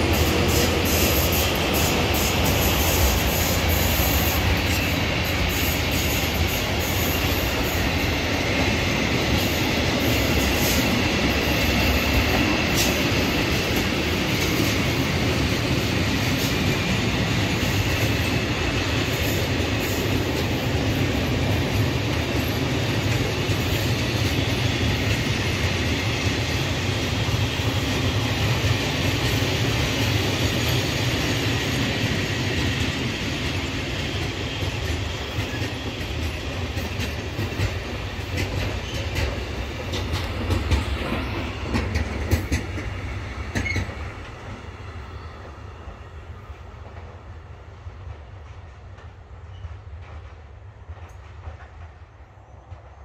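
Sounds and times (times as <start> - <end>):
train wheels clacking on rail joints: 0.0 - 52.9
train rumble: 0.0 - 53.0.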